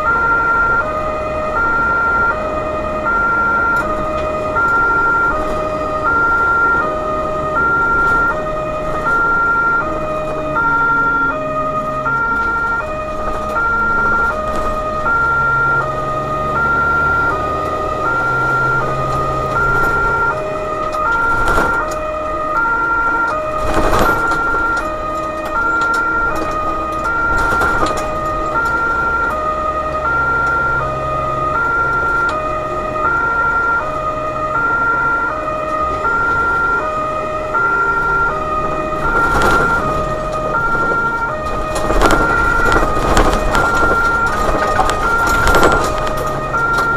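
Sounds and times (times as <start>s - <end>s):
road noise: 0.0s - 46.9s
truck engine: 0.0s - 46.9s
two-tone emergency siren: 0.0s - 46.9s.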